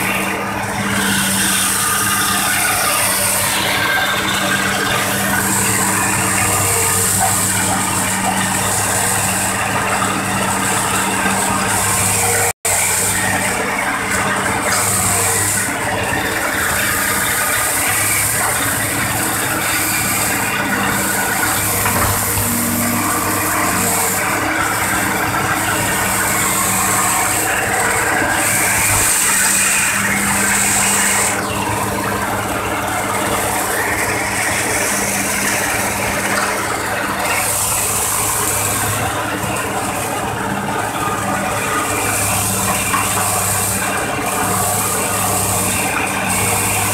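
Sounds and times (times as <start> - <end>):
excavator diesel engines humming: 0.0 - 46.9.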